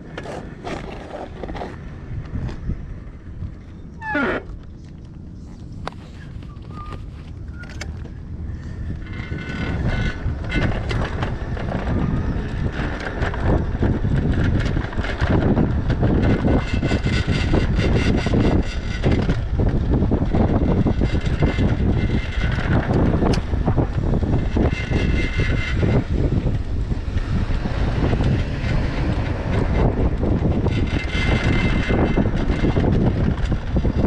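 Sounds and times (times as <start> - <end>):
bike clicking and rattling: 0.0 - 34.0
wind buffeting microphone: 0.0 - 34.0.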